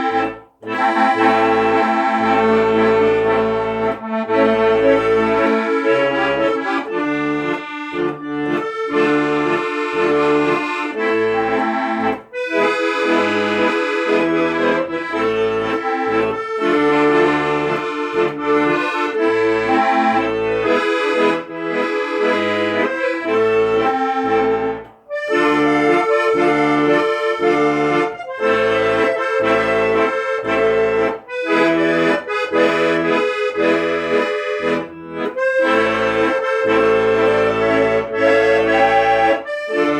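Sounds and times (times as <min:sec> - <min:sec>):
instrumental melody: 0:00.0 - 0:39.9.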